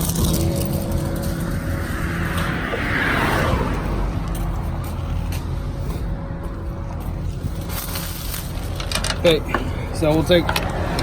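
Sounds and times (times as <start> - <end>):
vehicle passing by: 0.0 - 7.6, 9.8 - 11.0
low engine hum: 0.0 - 11.0.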